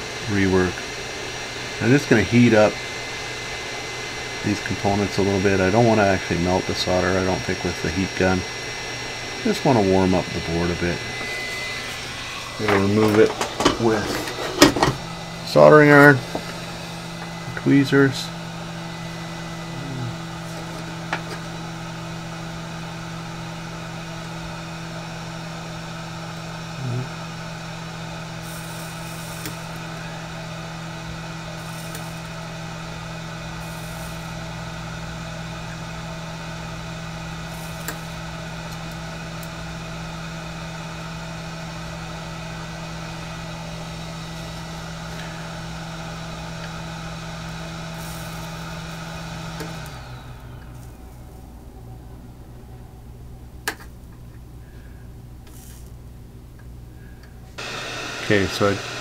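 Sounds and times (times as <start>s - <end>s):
heat gun fan humming: 0.0s - 59.0s.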